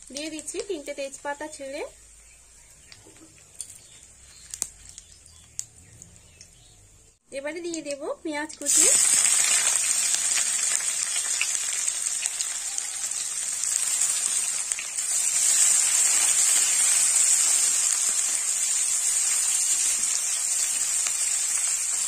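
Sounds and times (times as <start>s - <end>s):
onions sizzling in oil: 0.0s - 5.7s, 8.4s - 22.0s.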